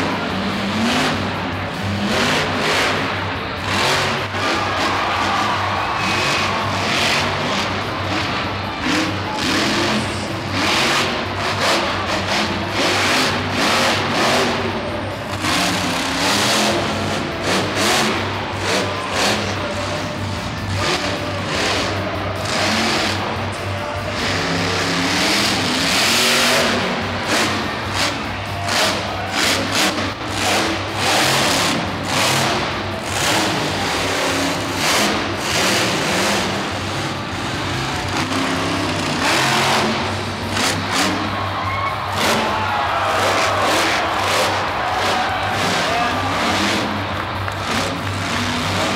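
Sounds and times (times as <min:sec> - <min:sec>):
monster truck engine revving: 0:00.0 - 0:48.9.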